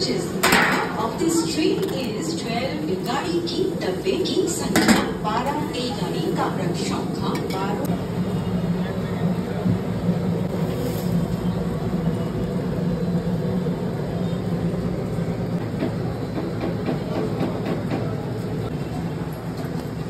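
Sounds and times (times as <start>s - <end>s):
low rumble and hum of food stall: 0.0s - 20.0s.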